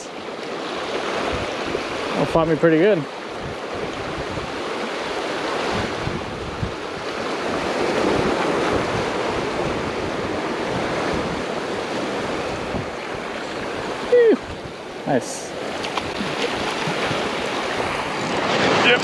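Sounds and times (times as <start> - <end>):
ocean surf washing in: 0.0 - 19.0
wind buffeting microphone: 0.6 - 2.6, 3.2 - 19.0.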